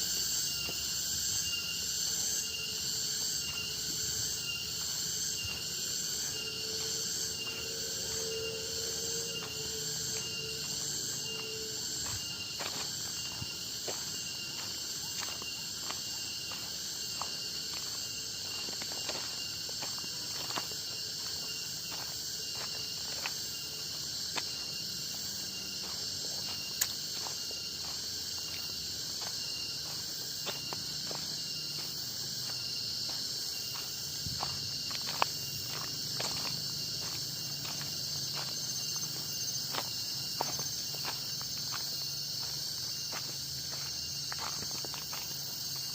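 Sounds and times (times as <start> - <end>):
footsteps on trail: 0.0 - 45.9
forest insects chorus: 0.0 - 45.9.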